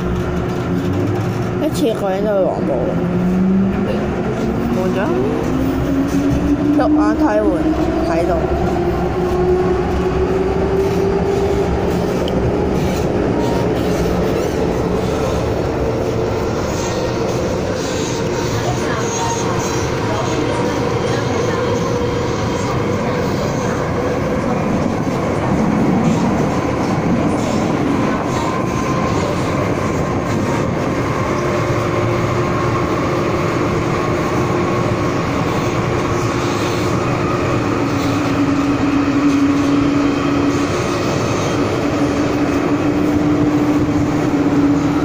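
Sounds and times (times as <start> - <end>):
subway train rumble and rattle: 0.0 - 45.0.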